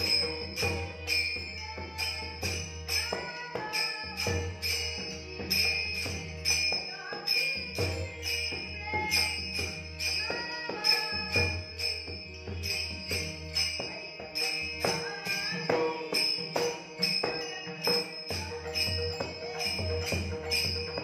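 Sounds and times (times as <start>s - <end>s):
hand cymbals clashing: 0.0s - 21.0s
harmonium held notes: 0.0s - 21.0s.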